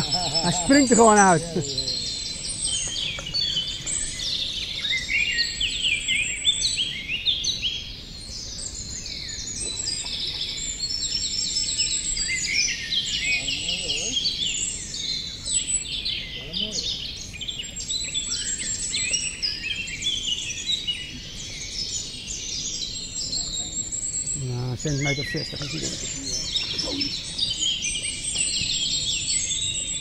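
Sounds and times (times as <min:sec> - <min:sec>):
songbirds singing: 0:00.0 - 0:30.0.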